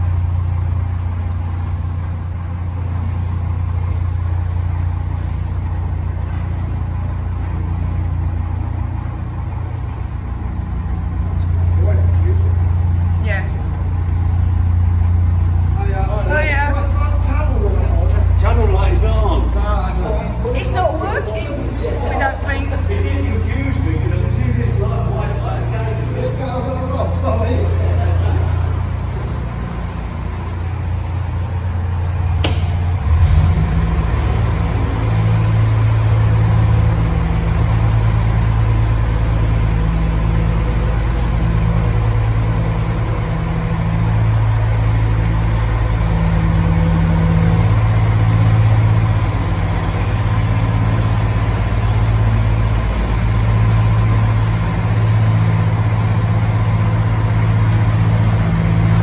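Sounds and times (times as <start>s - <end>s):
diesel engine throbbing in tunnel: 0.0s - 59.0s.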